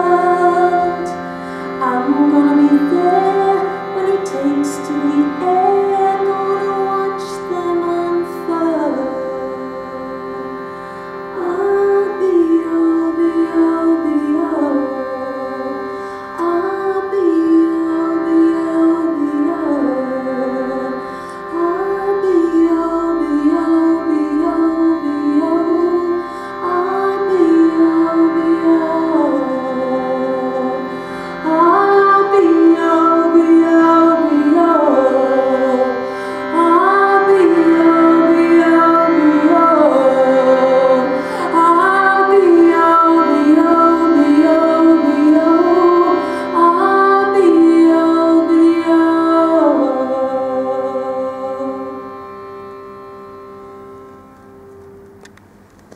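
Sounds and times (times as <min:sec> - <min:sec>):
woman singing slow melody: 0:00.0 - 0:10.6, 0:11.4 - 0:52.4
shruti box drone: 0:00.0 - 0:55.9.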